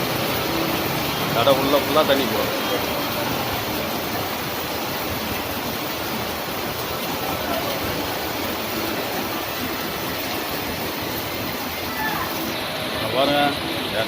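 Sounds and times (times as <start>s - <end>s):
floodwater rushing: 0.0s - 14.0s
passing traffic: 0.0s - 14.0s.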